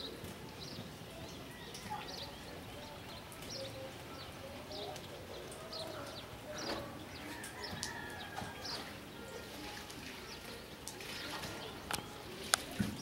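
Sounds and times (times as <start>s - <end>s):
birds chirping and calling: 0.0s - 13.0s
steady background noise: 0.0s - 13.0s.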